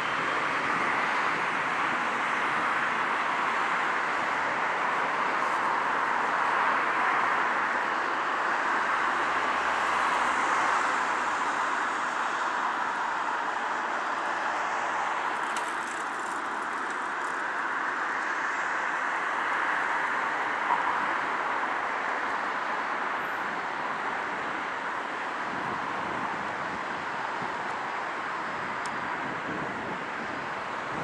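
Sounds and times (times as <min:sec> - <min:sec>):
distant road traffic: 0:00.0 - 0:31.0.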